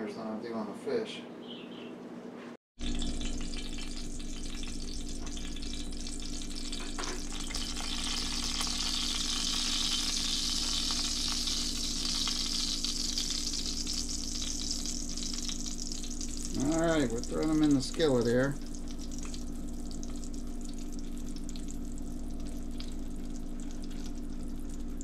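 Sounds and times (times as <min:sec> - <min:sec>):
hot oil sizzling in a skillet: 0:02.8 - 0:25.0.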